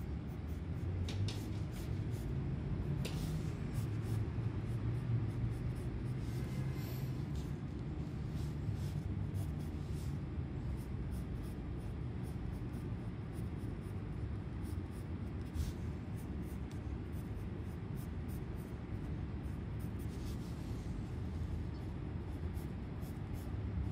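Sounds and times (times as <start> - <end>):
pencil scratching on paper: 0.0 - 2.3, 2.9 - 21.1, 21.8 - 23.9
steady low hum: 0.0 - 23.9.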